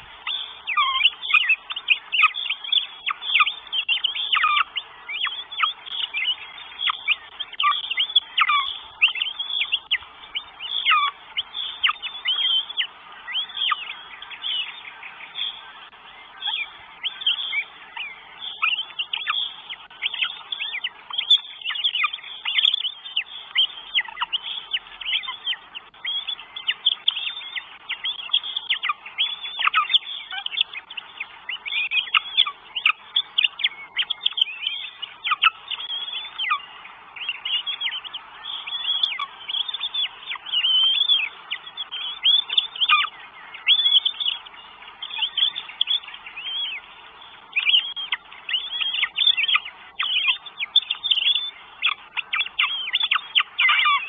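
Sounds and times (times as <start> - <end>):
nestlings begging calls: 0.0 - 54.0.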